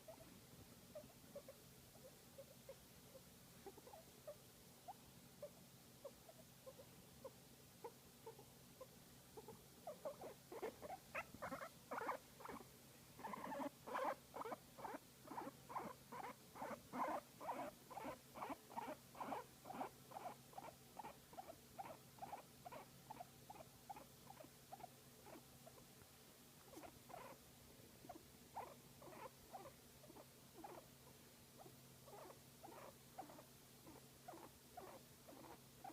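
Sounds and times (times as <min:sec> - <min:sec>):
guinea pig soft calls: 0:00.0 - 0:35.9.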